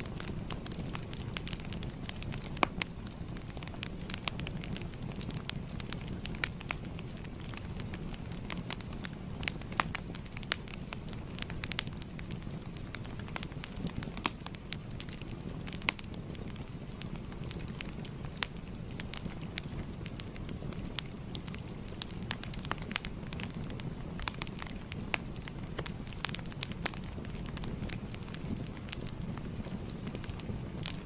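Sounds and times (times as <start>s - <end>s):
fire crackles and pops: 0.0s - 31.0s
wood fire rumbling: 0.0s - 31.0s.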